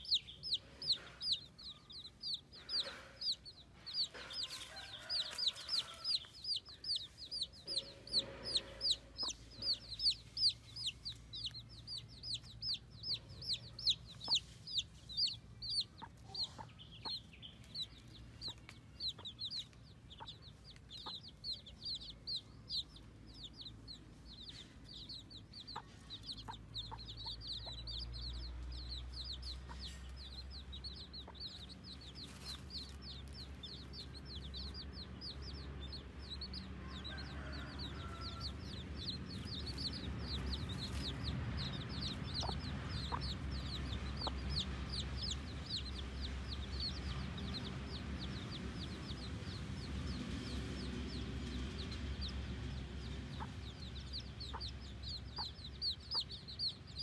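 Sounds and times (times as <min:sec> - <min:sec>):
baby chicks peeping: 0:00.0 - 0:57.0.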